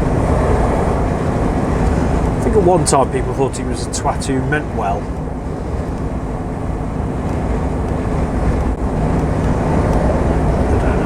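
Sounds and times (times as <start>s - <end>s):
lorry engine hum: 0.0s - 11.0s
road and tyre noise: 0.0s - 11.0s.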